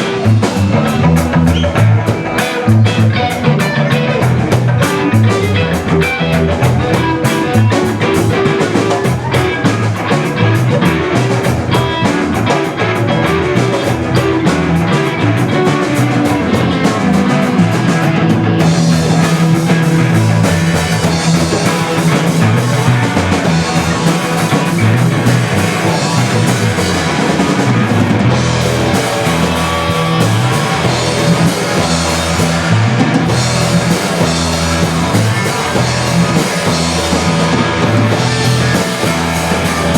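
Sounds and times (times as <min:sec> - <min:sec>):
cymbal-heavy drumming: 0:00.0 - 0:39.9
electric guitar: 0:00.0 - 0:39.9.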